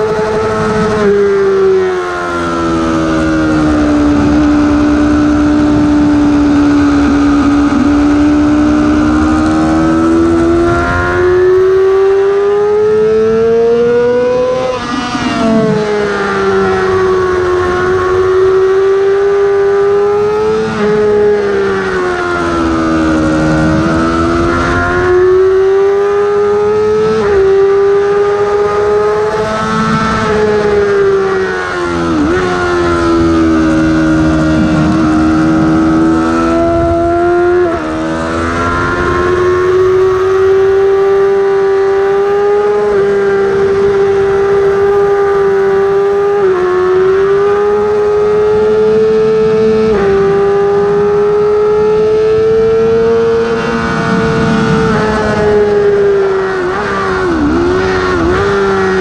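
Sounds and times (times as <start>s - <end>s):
motorcycle engine revving high: 0.0s - 59.0s.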